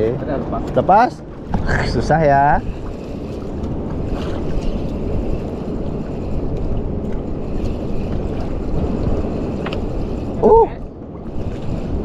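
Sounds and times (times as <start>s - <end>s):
water lapping against boat: 0.0s - 12.0s
wind buffeting microphone: 0.0s - 12.0s.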